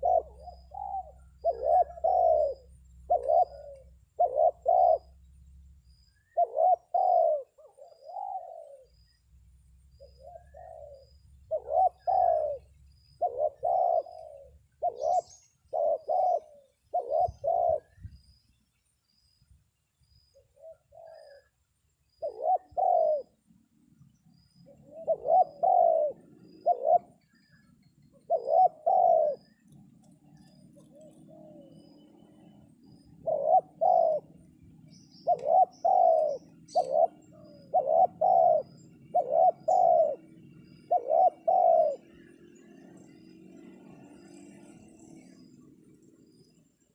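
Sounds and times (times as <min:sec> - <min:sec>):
doves cooing: 0:00.0 - 0:18.3, 0:20.2 - 0:46.9.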